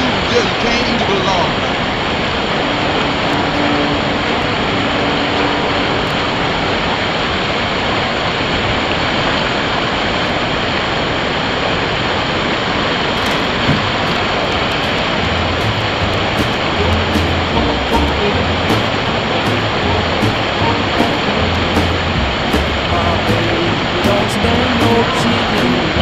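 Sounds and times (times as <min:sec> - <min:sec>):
waterfall and rapids roaring: 0:00.0 - 0:26.0.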